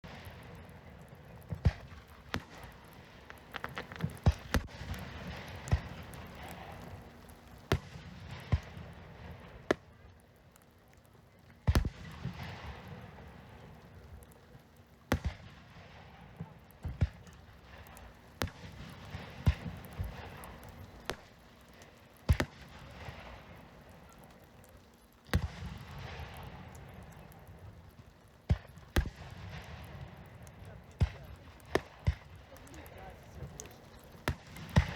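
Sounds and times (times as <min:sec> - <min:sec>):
fireworks bursting with bangs: 0:00.0 - 0:10.1, 0:11.6 - 0:34.9.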